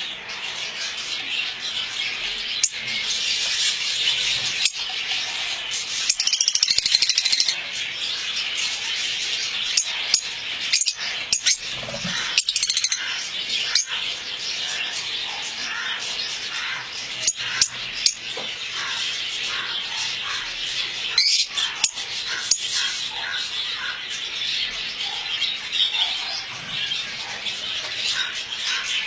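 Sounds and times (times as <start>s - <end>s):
lovebirds chattering: 0.0s - 29.0s.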